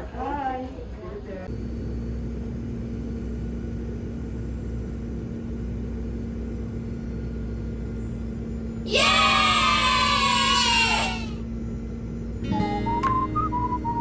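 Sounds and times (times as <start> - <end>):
low vehicle rumble: 1.5 - 14.0.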